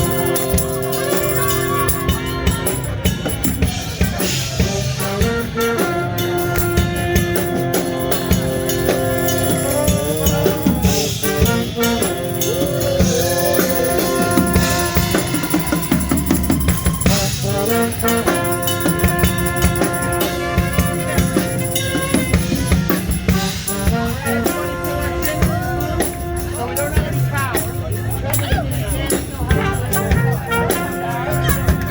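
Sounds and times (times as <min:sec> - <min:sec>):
brass horns sustained notes: 0:00.0 - 0:31.9
drum kit drumming: 0:00.0 - 0:31.9.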